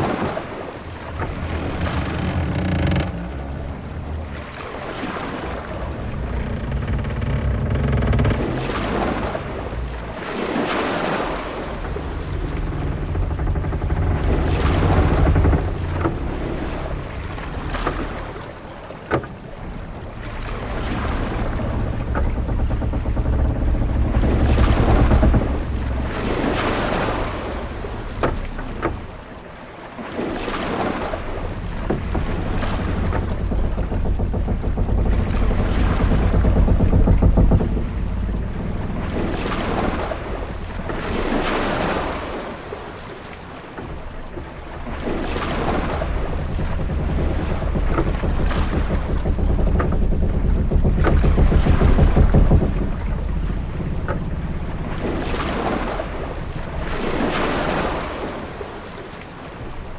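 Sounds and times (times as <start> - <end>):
sharp knocks: 0.0 - 29.3, 30.4 - 42.4, 43.8 - 58.6
sea waves washing against ship: 0.0 - 59.9
wind: 0.0 - 59.9.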